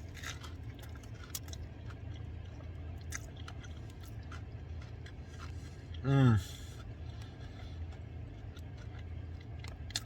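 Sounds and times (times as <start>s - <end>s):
man chewing crunchy sandwich: 0.0s - 10.0s
steady low hum: 0.0s - 10.0s.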